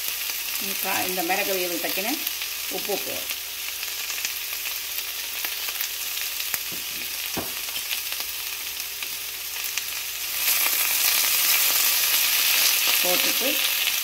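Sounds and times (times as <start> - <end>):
vegetables sizzling in frying pan: 0.0 - 14.0.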